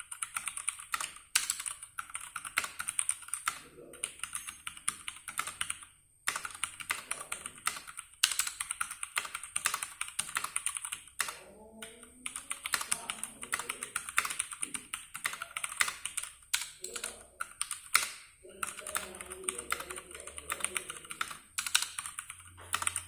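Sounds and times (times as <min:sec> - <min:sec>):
fast mechanical keyboard typing: 0:00.0 - 0:23.0.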